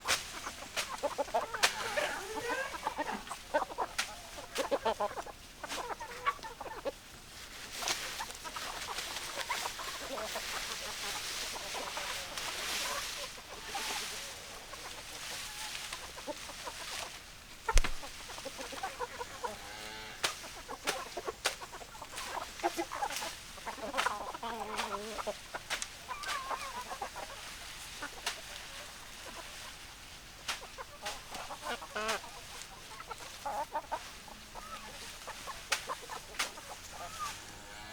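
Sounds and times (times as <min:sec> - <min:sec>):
hens clucking: 0:00.0 - 0:37.9.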